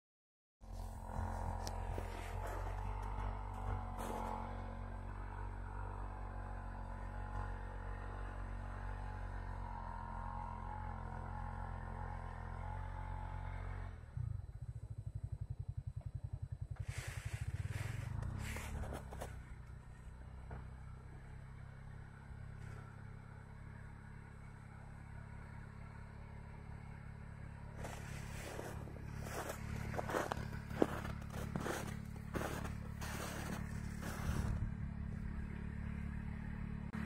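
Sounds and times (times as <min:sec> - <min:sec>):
engine running: 0:00.6 - 0:37.0.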